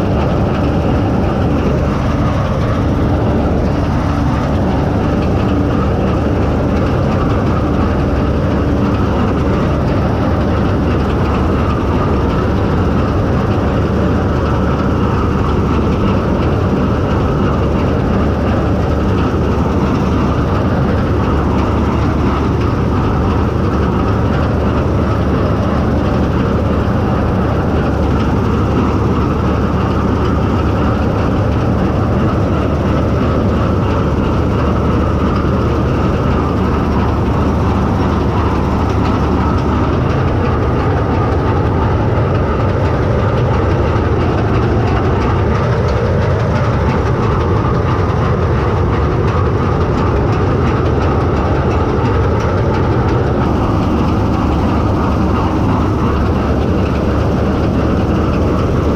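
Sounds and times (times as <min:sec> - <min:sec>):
combine harvester rumbling: 0:00.0 - 0:58.9.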